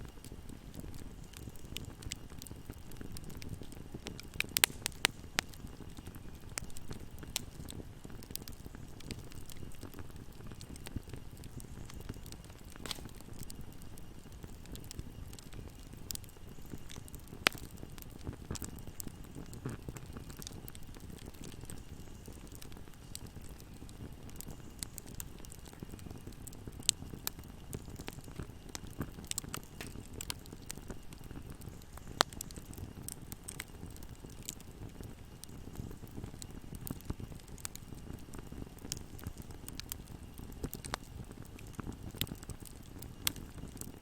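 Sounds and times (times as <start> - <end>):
wood fire burning: 0.0 - 44.0
loud pops of fire: 0.1 - 44.0.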